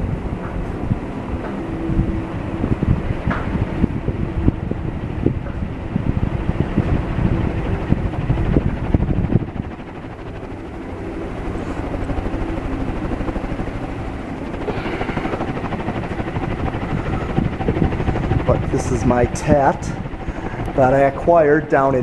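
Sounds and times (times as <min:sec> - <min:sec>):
ceiling fan whooshing: 0:00.0 - 0:22.0.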